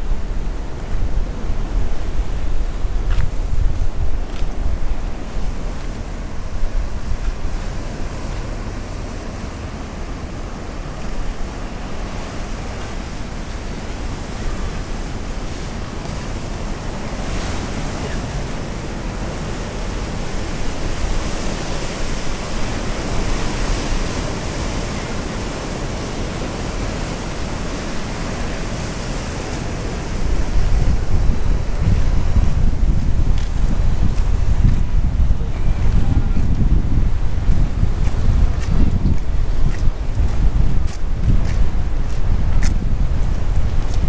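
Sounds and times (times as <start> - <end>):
sea surf washing against concrete: 0.0 - 44.0
wind buffeting microphone: 0.0 - 44.0.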